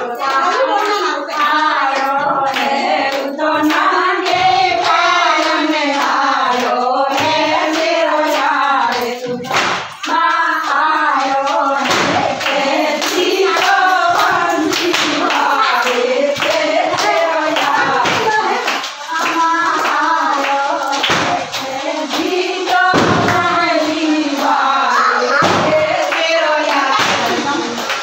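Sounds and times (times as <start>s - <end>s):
hand clapping: 0.1s - 28.0s.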